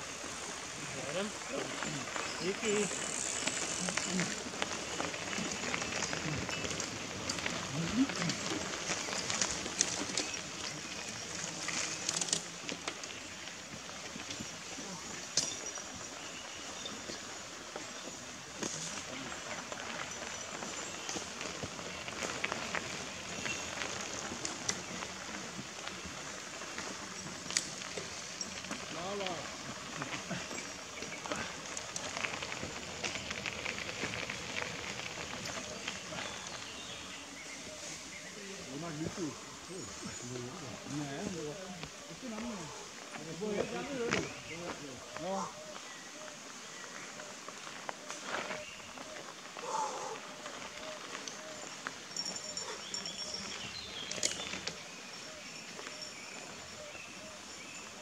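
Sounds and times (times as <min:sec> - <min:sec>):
bicycle tyres crunching on gravel: 0:00.0 - 0:58.0
faint crackles and ticks: 0:00.0 - 0:58.0
steady hiss: 0:00.0 - 0:58.0
birdsong: 0:00.1 - 0:58.0.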